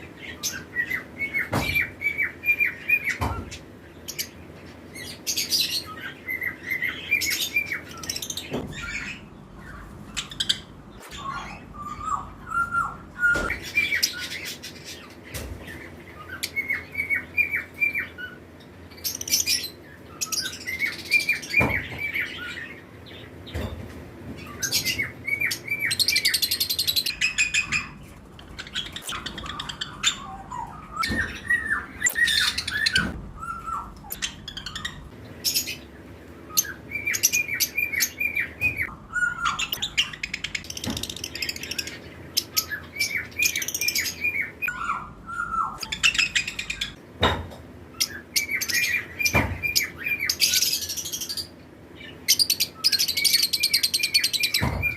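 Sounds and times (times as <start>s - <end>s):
lovebirds chirping and squawking: 0.0s - 54.9s.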